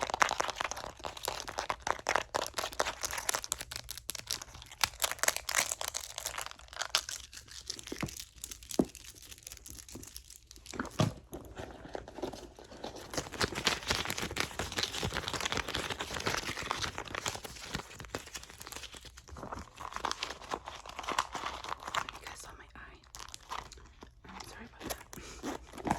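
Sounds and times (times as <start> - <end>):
handbag crinkling and rustling: 0.0 - 25.9.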